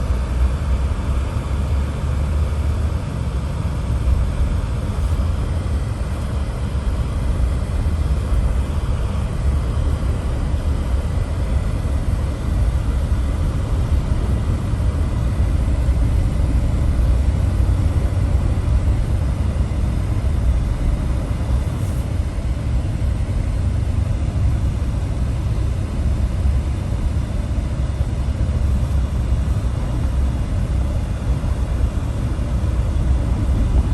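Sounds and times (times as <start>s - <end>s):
moving vehicle rumble: 0.0s - 33.9s.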